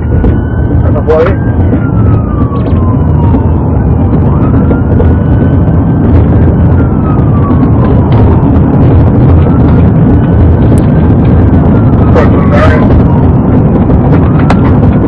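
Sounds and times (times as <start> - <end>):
police siren wailing: 0.0 - 15.0
road and engine noise: 0.0 - 15.0.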